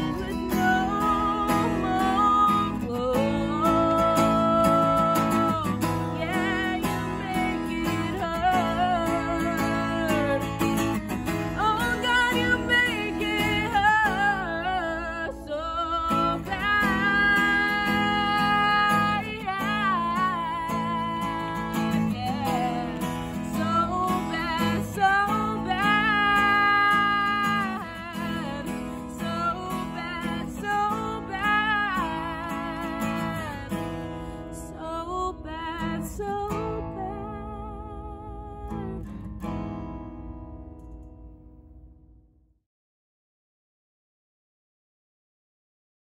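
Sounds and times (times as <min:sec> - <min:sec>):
woman singing with vibrato: 0:00.0 - 0:39.1
acoustic guitar strumming: 0:00.0 - 0:42.2.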